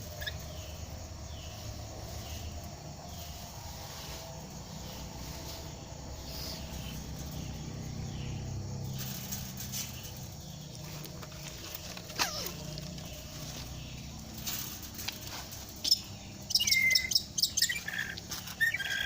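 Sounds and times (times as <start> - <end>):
insects: 0.0 - 19.0
soft bird chirps: 0.0 - 19.0.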